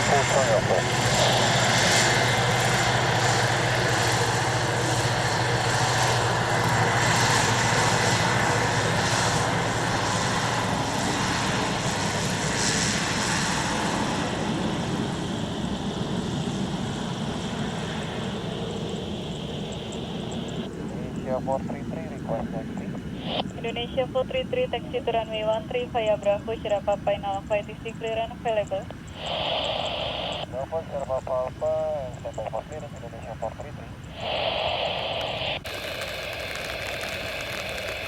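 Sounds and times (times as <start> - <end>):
aircraft engines running loud: 0.0 - 38.0
high engine whine: 0.0 - 38.0.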